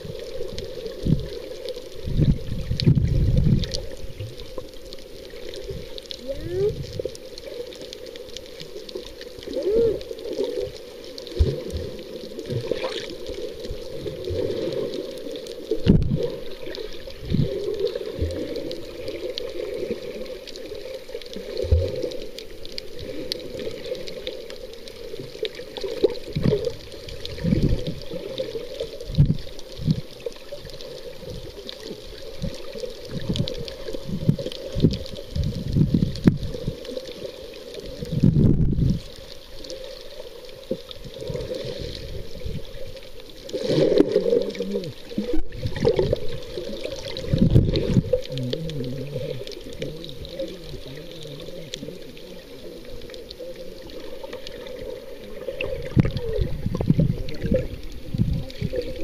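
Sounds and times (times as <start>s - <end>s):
underwater sloshing and gurgling: 0.0s - 59.0s.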